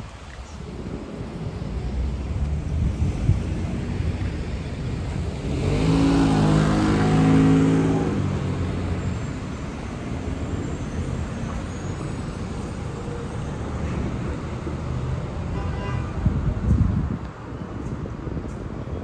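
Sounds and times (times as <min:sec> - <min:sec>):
bus engine passing: 0:00.0 - 0:15.6
road rumble: 0:00.0 - 0:19.0
wind: 0:00.0 - 0:19.0.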